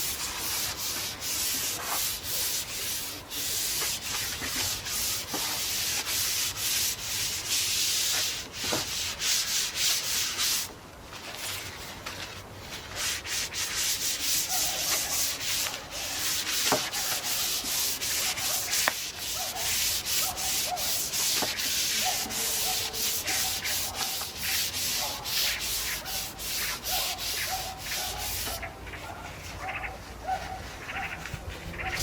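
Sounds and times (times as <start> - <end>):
brush swishing over wood planks: 0.0 - 28.7.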